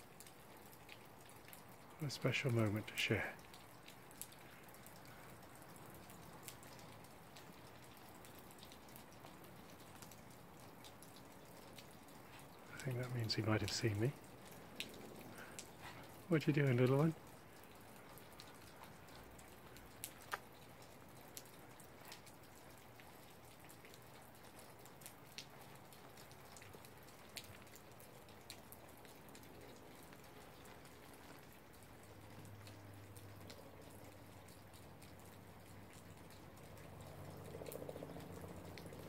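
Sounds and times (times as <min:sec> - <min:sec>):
faint clicks and ticks: 0:00.0 - 0:39.0.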